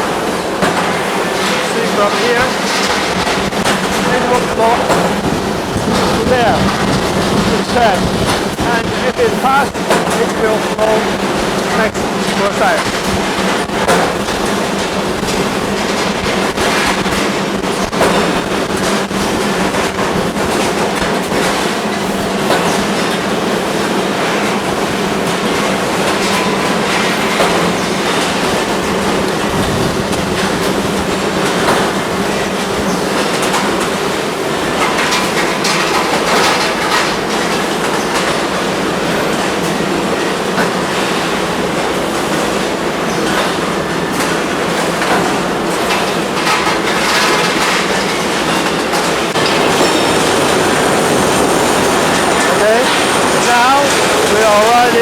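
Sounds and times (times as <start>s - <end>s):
forging machine hum: 0.0s - 55.0s.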